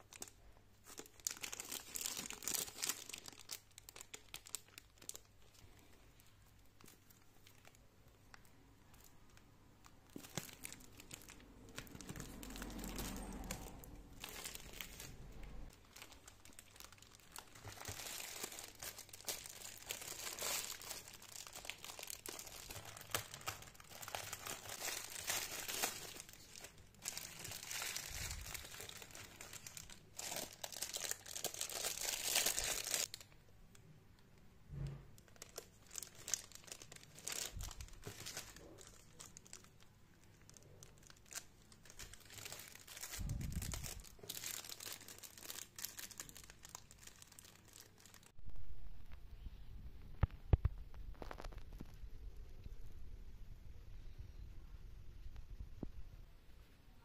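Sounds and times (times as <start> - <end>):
plastic packaging crinkling: 0.0 - 33.4, 35.1 - 48.4, 50.2 - 52.0.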